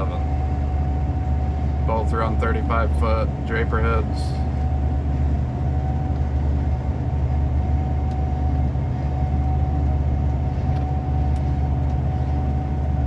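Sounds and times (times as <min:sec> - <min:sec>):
combine harvester drone: 0:00.0 - 0:13.0
thin steady whine: 0:00.0 - 0:13.0.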